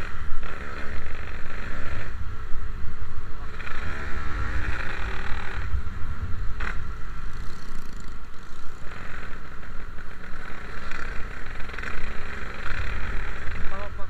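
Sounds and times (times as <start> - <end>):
two-stroke motorcycle engine running: 0.0 - 14.0
wind and road rumble: 0.0 - 14.0.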